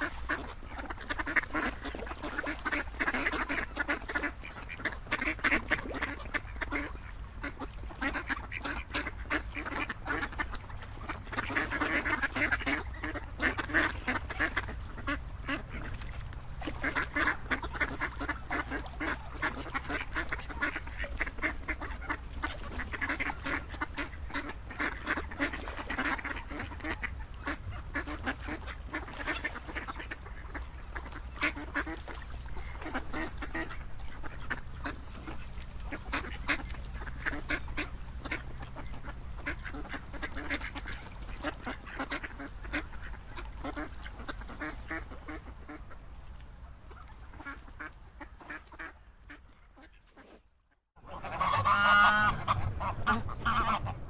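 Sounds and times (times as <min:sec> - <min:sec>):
ducks quacking: 0:00.0 - 0:50.4, 0:51.0 - 0:54.0.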